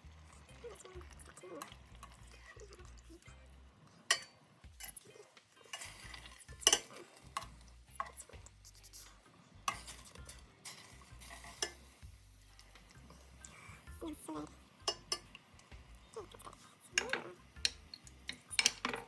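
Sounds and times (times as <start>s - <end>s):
chicken sizzling: 0.0s - 19.0s
utensil scraping a pot: 0.2s - 19.0s.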